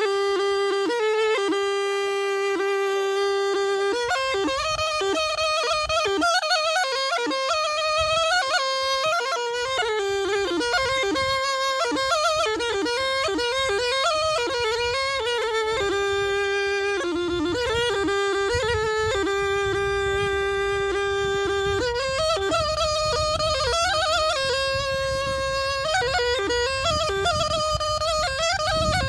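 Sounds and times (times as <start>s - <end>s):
shawm playing fast folk melody: 0.0s - 29.0s.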